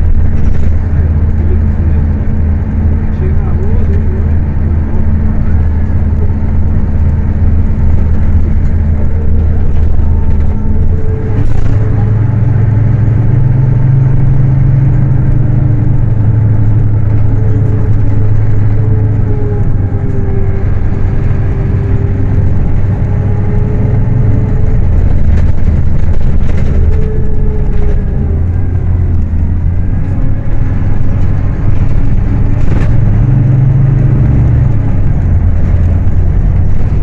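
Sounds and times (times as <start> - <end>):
bus engine drone: 0.0 - 37.0.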